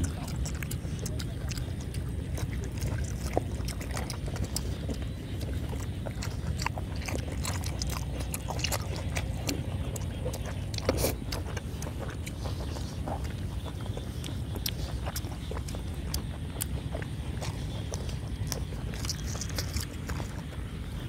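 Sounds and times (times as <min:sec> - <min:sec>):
steady low rumble: 0:00.0 - 0:21.0
wet chewing mouth clicks: 0:00.0 - 0:21.0.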